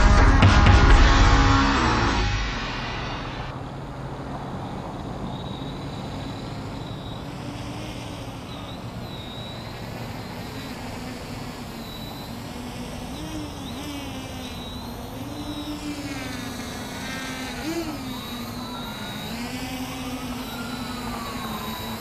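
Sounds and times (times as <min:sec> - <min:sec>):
quadcopter motors buzzing: 0:01.7 - 0:22.0.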